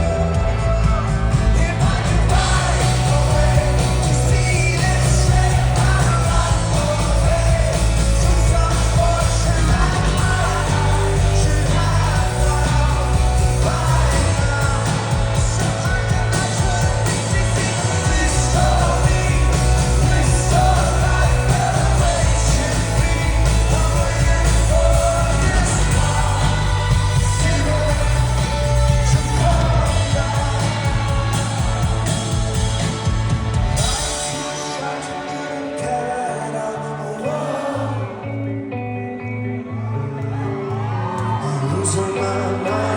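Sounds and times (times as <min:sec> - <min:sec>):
lead vocalist singing: 0:00.0 - 0:39.3, 0:40.3 - 0:42.9
live rock band playing: 0:00.0 - 0:42.9.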